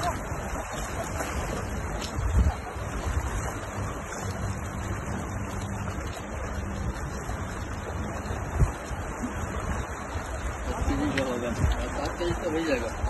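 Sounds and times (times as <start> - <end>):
choppy sea waves: 0.0 - 13.0
wind rumbling on microphone: 0.0 - 13.0.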